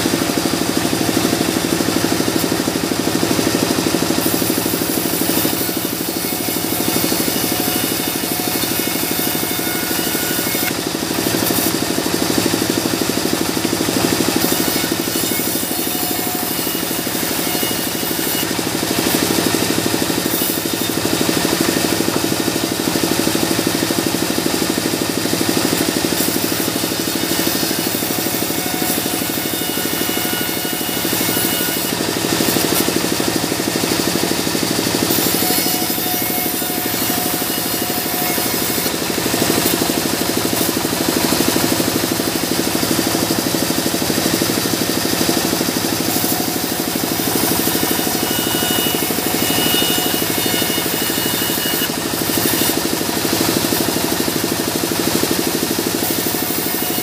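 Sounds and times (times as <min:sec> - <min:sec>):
sawmill saw cutting wood: 0:00.0 - 0:57.0.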